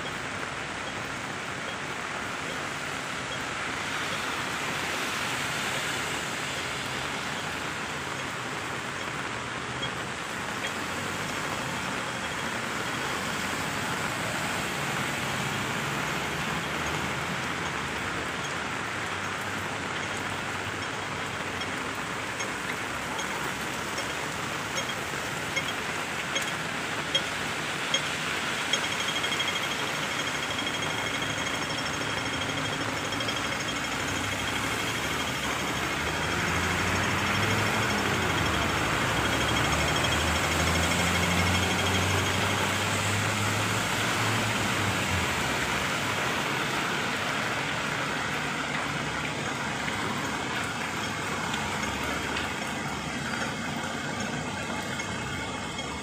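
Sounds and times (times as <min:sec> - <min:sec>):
crossing signal ticking: 0:00.0 - 0:56.0
heavy rain on a street: 0:00.0 - 0:56.0
traffic passing: 0:00.1 - 0:56.0.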